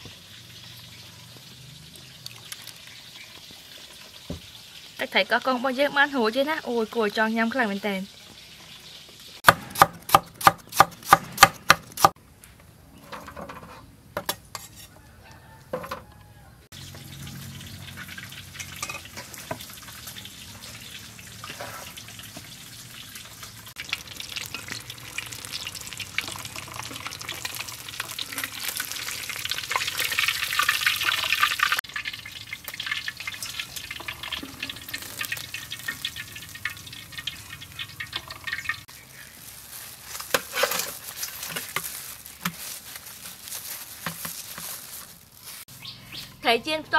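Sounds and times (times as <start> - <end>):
food frying in hot oil: 0.0 - 9.8, 16.7 - 45.7.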